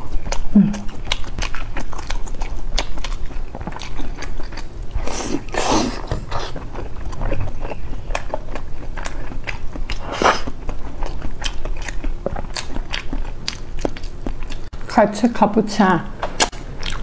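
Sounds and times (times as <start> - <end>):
wet chewing and lip smacks: 0.0 - 14.8, 16.4 - 17.0.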